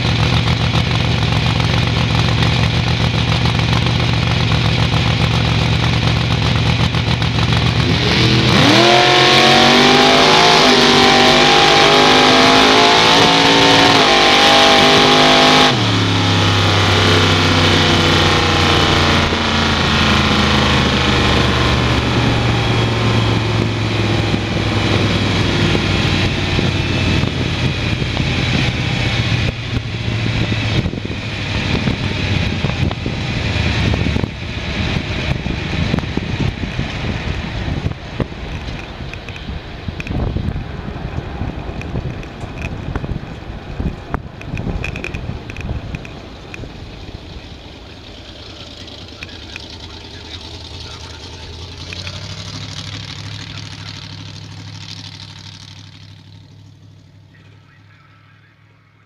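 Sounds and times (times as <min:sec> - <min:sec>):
drag racing car engine: 0:00.0 - 0:59.0.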